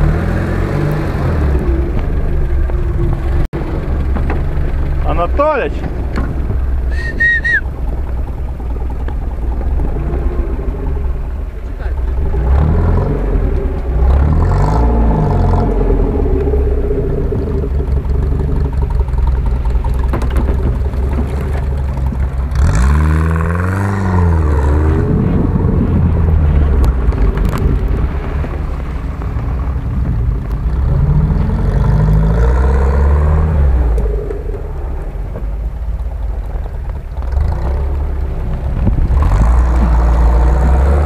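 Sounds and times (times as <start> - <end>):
off-road vehicle engine revving: 0.0 - 41.0.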